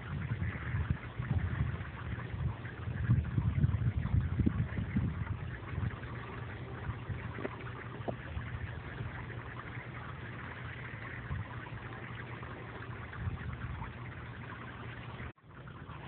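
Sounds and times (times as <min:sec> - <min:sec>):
sprinkler water jets splashing: 0:00.0 - 0:16.0.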